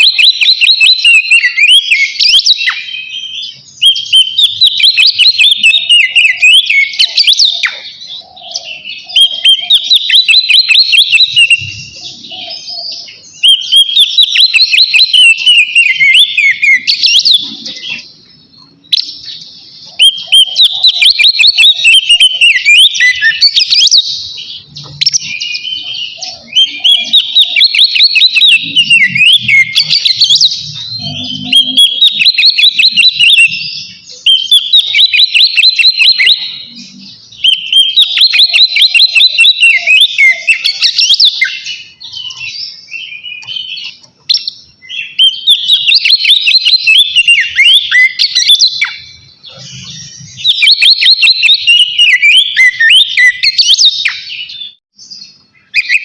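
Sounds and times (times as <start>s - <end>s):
bird whistling song: 0.0s - 56.0s.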